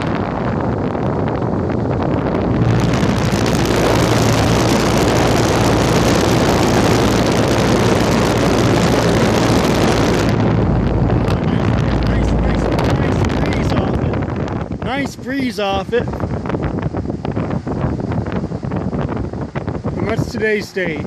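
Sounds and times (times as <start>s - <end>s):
condenser unit low hum: 0.0s - 21.0s
fan air rushing across microphone: 0.0s - 21.0s.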